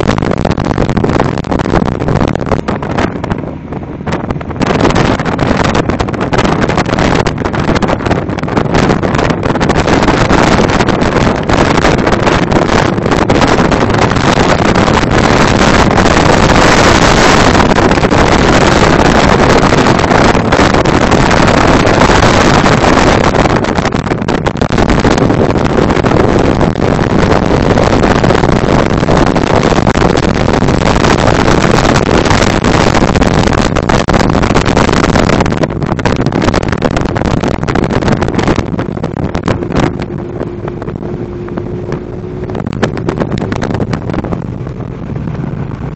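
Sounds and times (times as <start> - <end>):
outboard motor engine: 0.0 - 45.9
water rushing: 0.0 - 45.9
wind rush on microphone: 0.0 - 45.9.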